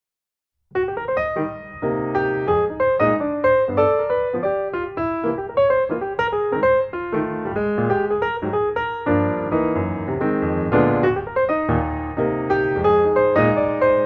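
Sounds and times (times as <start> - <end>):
piano music: 0.7 - 14.0.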